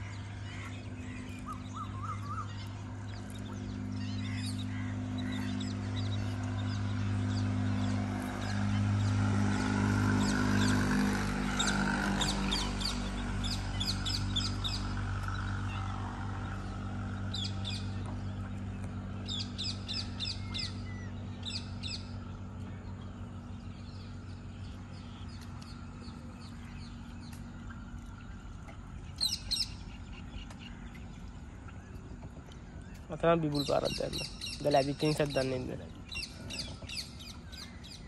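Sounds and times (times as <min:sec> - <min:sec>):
birds chirping: 0:00.0 - 0:38.0
steady low hum: 0:00.0 - 0:38.0.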